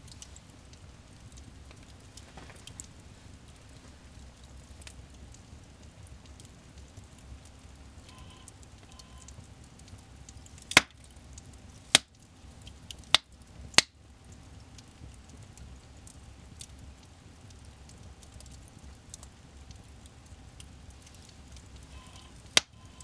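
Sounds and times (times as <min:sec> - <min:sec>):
burning wood popping: 0:00.0 - 0:23.0
fire crackling: 0:00.0 - 0:23.0.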